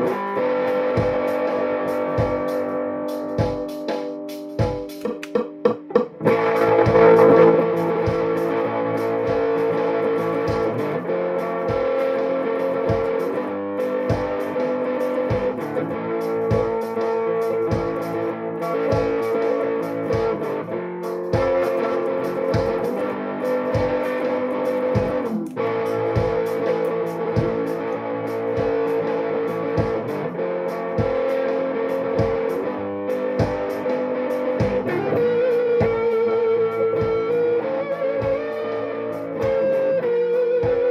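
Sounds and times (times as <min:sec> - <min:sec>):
electric guitar lead: 0:00.0 - 0:40.9
low thumping beat: 0:00.0 - 0:40.9.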